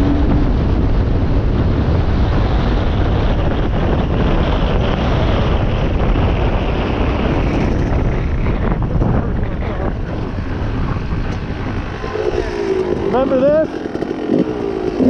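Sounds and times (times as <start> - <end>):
dirt bike engine running: 0.0 - 15.0
wind rushing over microphone: 0.0 - 15.0.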